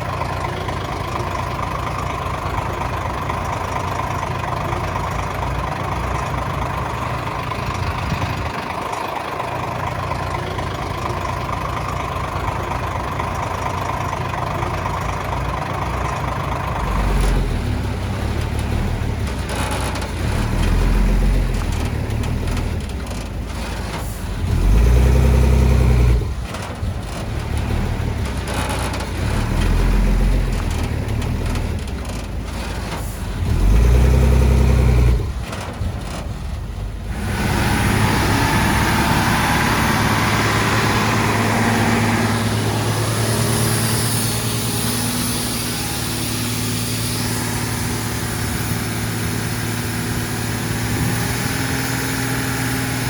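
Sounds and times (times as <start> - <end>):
diesel machinery engine working: 0.0 - 53.0.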